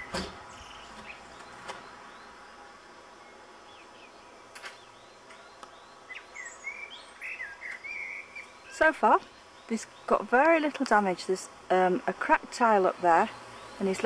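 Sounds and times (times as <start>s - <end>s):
small birds chirping: 0.0s - 2.6s, 3.2s - 14.0s.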